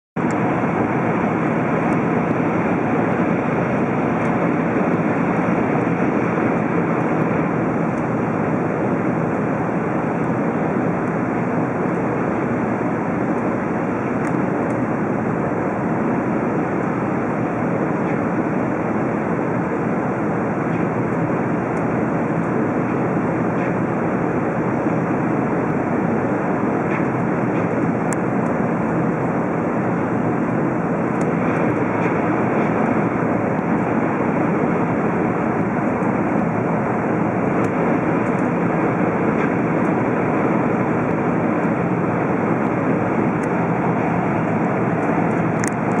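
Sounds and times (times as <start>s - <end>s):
high-speed train running noise in cabin: 0.2s - 46.0s.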